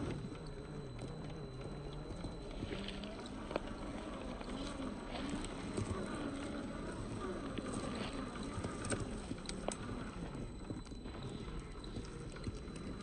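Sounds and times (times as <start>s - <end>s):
electric motor whining: 0.0s - 13.0s
small clicks and snaps: 0.0s - 13.0s
tyres crunching over dirt: 0.0s - 13.0s.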